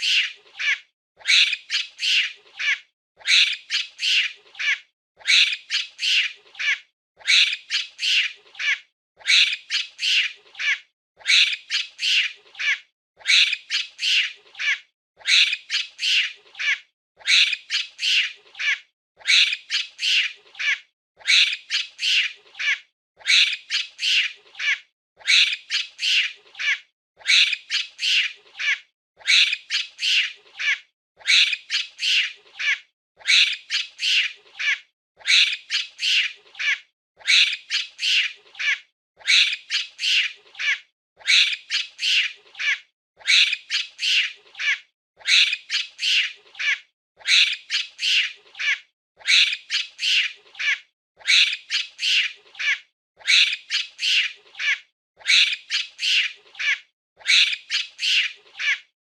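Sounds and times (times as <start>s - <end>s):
monkey giving high-pitched calls: 0.0s - 58.9s.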